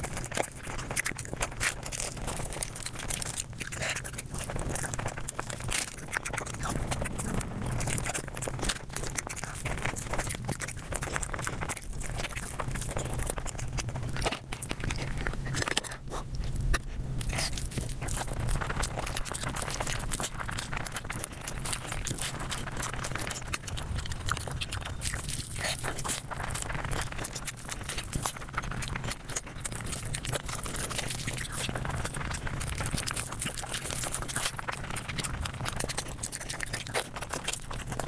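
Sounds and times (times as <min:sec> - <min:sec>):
rapid crunching and chewing: 0:00.0 - 0:38.0.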